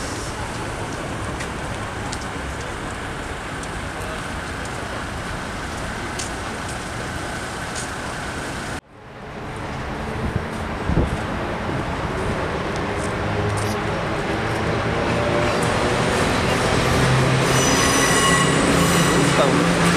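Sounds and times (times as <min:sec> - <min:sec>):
street rushing noise: 0:00.0 - 0:19.9.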